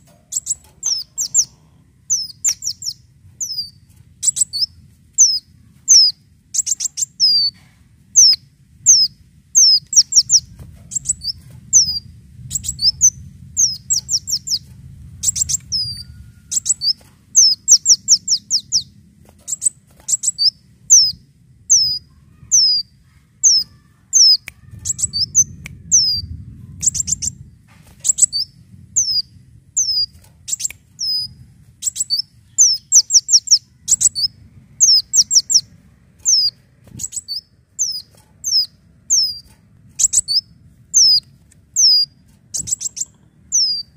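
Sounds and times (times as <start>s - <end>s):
faint low rumble: 0.0s - 43.9s
sunbird chirping: 0.0s - 43.9s.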